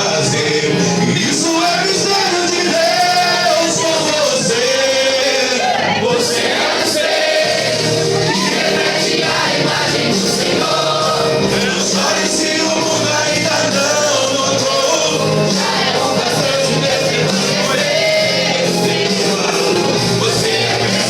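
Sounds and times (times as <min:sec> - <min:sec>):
musical accompaniment: 0:00.0 - 0:21.0
voices singing worship song: 0:00.0 - 0:21.0.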